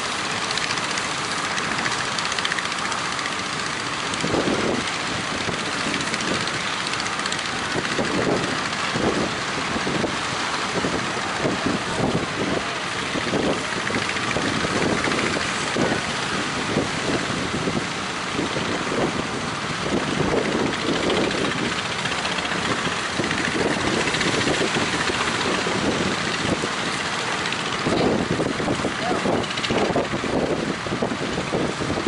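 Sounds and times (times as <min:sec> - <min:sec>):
boat engine running: 0:00.0 - 0:32.0
wind buffeting microphone: 0:00.0 - 0:32.0.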